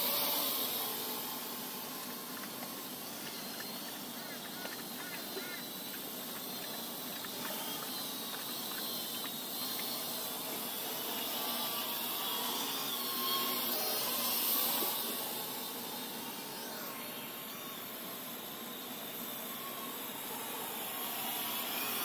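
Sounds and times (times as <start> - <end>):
quadcopter whirring: 0.0 - 22.0.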